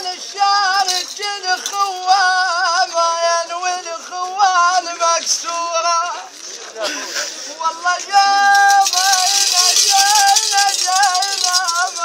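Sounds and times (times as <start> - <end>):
man chanting in a high voice: 0.0 - 6.3, 7.5 - 12.0.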